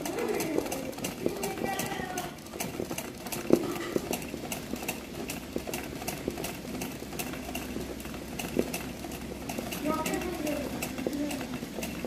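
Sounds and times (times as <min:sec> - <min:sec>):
sewing machine hum: 0:00.0 - 0:12.0
sewing machine needle clicks: 0:00.0 - 0:12.0.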